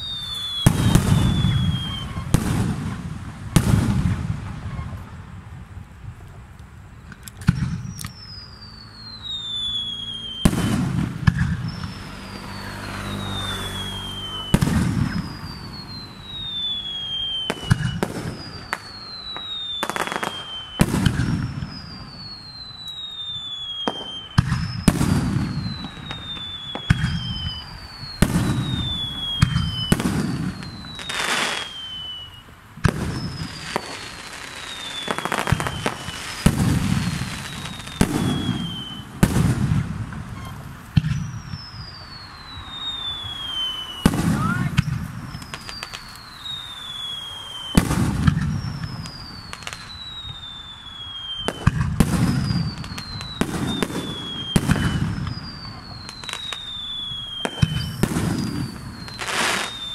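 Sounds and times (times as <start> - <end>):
falling firework whistle: 0.0 - 59.9
fireworks bursting with rumble: 0.0 - 59.9.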